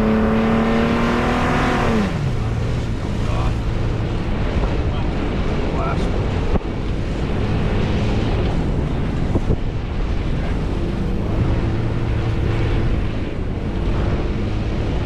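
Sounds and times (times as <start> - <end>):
low engine drone: 0.0 - 15.0
wind buffeting microphone: 0.0 - 15.0.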